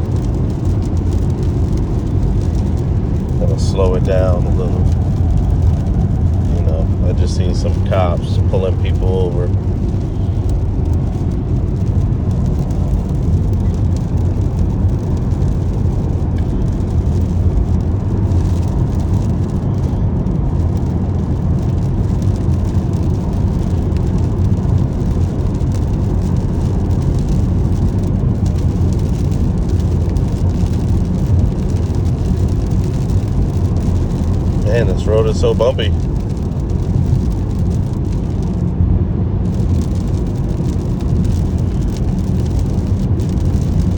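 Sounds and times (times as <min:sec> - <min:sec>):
road and tyre rumble: 0:00.0 - 0:43.9.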